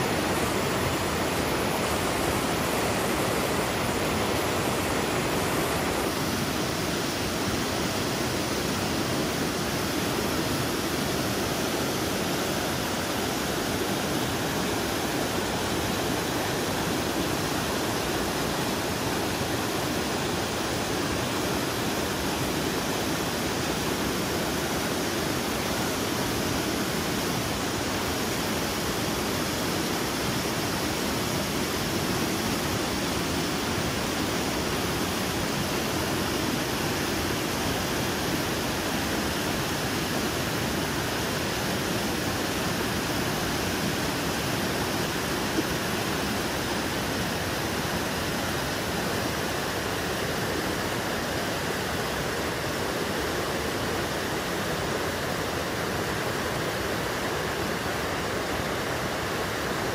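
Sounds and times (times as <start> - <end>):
river rapids rushing over rocks: 0.0 - 59.9.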